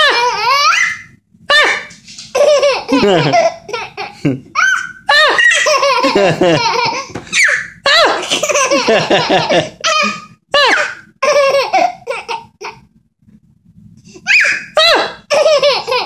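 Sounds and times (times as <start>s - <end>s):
baby laughing and squealing: 0.0s - 8.9s, 9.8s - 12.8s, 14.2s - 16.0s.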